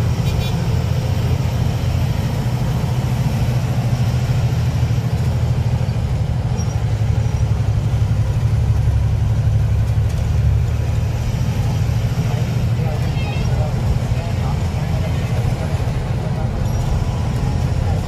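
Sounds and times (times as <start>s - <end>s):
truck diesel engine droning: 0.0s - 18.0s.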